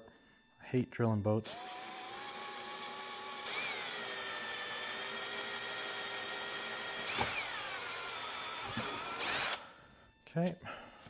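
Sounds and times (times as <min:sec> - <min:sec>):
cordless drill whining: 0:01.4 - 0:10.2.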